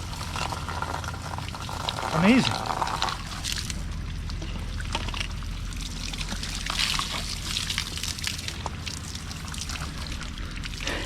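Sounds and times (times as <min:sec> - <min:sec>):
shower water splashing: 0:00.0 - 0:11.0.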